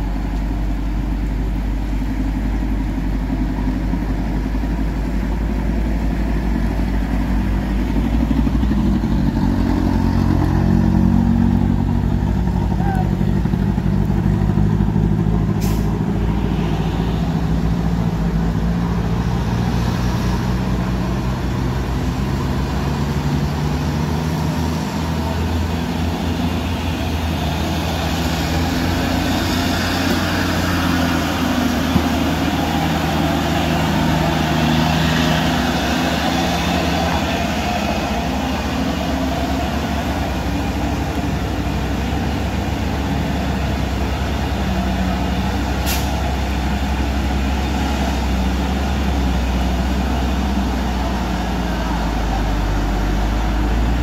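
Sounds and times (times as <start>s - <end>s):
diesel truck engines droning: 0.0s - 54.0s.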